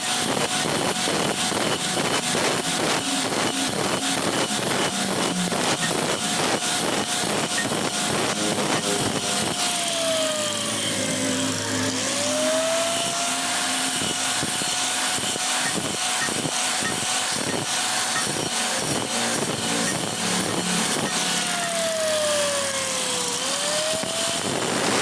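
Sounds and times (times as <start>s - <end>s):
machine motor grinding: 0.0s - 25.0s.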